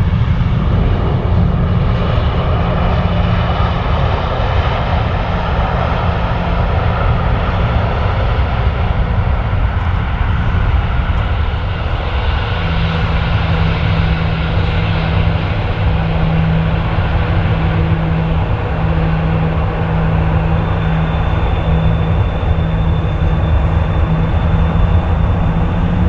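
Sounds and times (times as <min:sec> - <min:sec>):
airliner engines running: 0:00.0 - 0:26.0
high engine whine: 0:00.0 - 0:26.0
low hum: 0:00.0 - 0:26.0.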